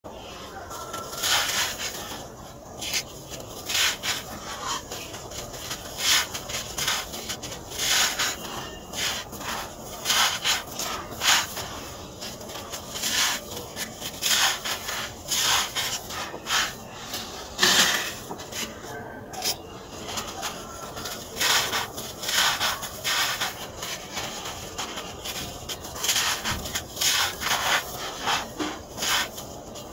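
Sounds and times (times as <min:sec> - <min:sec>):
hands crushing dry sand: 0:00.7 - 0:18.8, 0:19.4 - 0:29.9.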